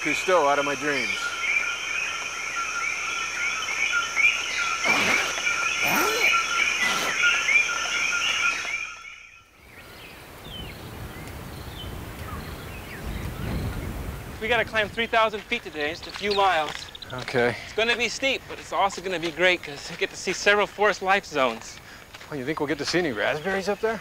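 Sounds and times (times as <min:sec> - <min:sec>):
faint outdoor ambience: 0:00.0 - 0:24.0
frogs chirping: 0:00.0 - 0:24.0
high insect hiss: 0:00.0 - 0:24.0.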